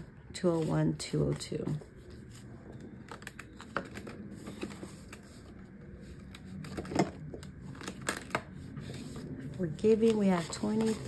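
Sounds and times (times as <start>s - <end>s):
banknotes crackling: 0.4s - 11.0s.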